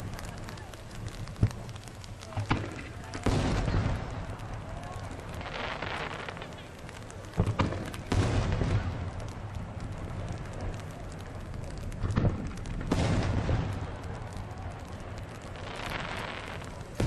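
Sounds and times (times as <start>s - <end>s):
firework booms: 0.0s - 17.0s.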